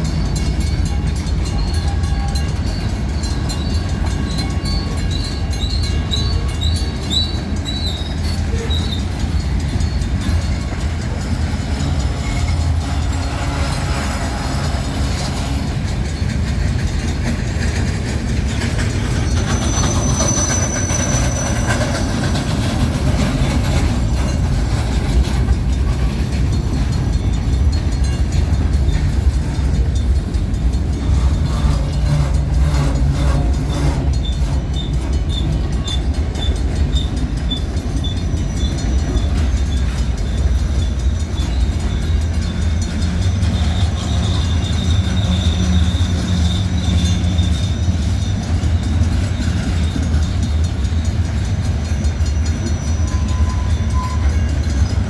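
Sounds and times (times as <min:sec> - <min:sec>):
high wheel squeal: 0:00.0 - 0:55.0
train wheels rumbling on rails: 0:00.0 - 0:55.0.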